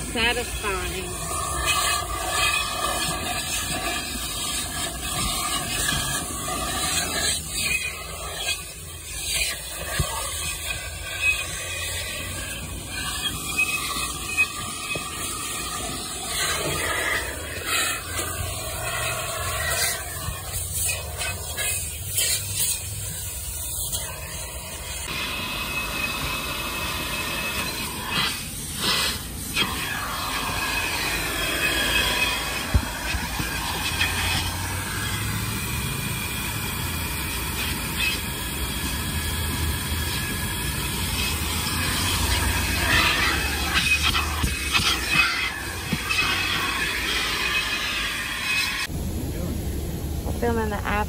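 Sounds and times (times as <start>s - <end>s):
vacuum nozzle sucking at carpet: 0.0s - 48.9s.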